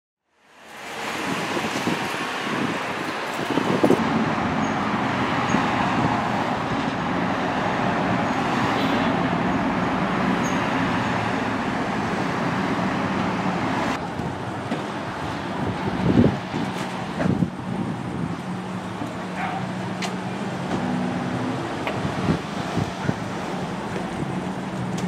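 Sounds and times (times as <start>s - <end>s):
street traffic noise: 0.3s - 25.0s.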